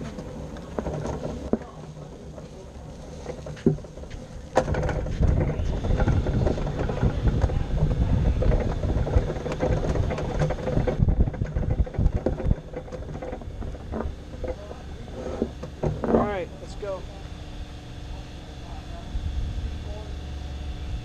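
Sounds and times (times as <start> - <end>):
airframe rattling and knocking: 0.0 - 17.0
wheels rumbling over ground: 0.0 - 21.0.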